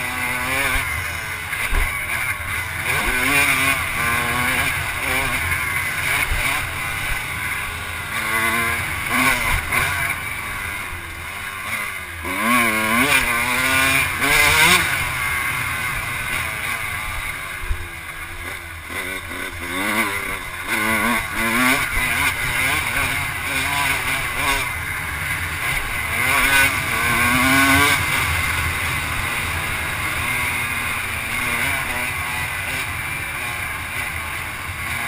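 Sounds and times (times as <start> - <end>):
off-road engine revving: 0.0 - 35.0.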